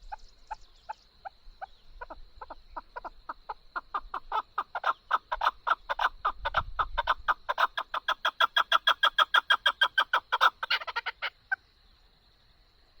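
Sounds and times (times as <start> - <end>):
partridge clucking call: 0.0 - 11.6.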